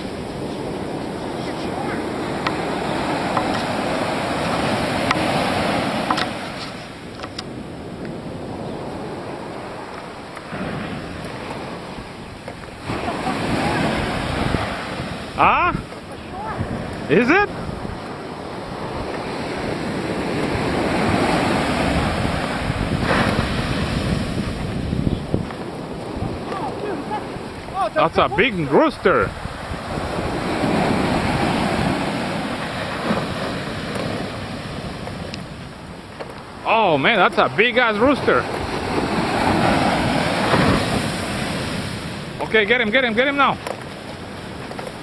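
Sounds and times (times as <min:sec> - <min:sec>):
surf breaking on sandy beach: 0:00.0 - 0:45.0
wind buffeting microphone: 0:00.0 - 0:45.0.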